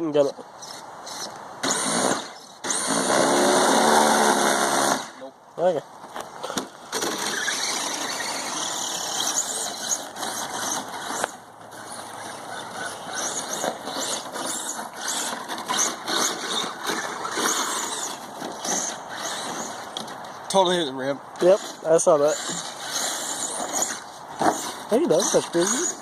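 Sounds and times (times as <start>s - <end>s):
toy truck motor whining: 0.6s - 5.2s, 6.9s - 20.0s, 21.4s - 26.0s.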